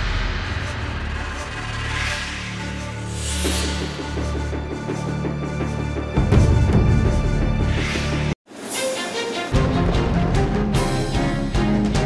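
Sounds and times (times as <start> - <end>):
background theme music: 0.0 - 12.0.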